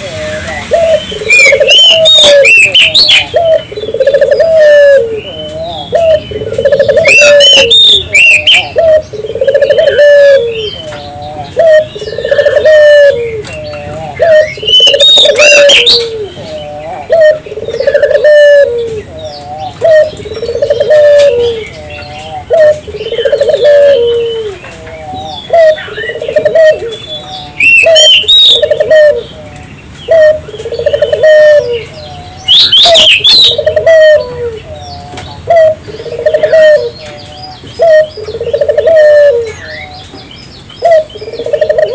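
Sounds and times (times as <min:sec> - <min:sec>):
dove cooing: 0:00.0 - 0:40.1, 0:40.8 - 0:41.9
small birds chirping: 0:00.0 - 0:41.9.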